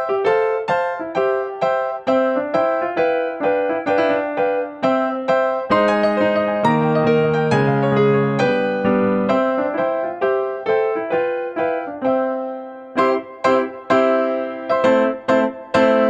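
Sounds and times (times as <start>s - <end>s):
gentle keyboard melody: 0.0s - 16.0s.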